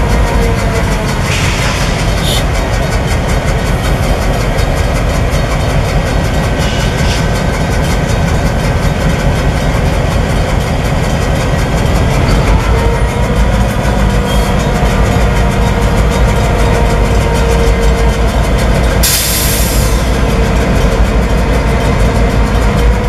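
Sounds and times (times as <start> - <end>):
diesel locomotive engines throbbing: 0.0 - 23.0.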